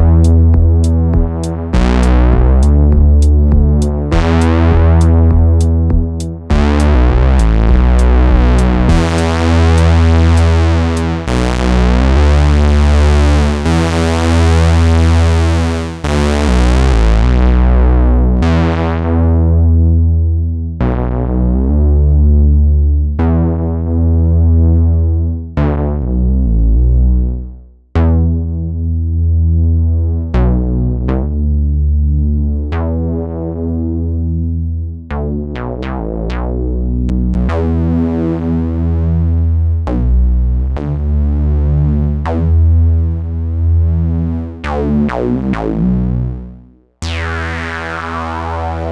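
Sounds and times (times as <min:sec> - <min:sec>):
gritty low synthesizer line: 0:00.0 - 0:48.9.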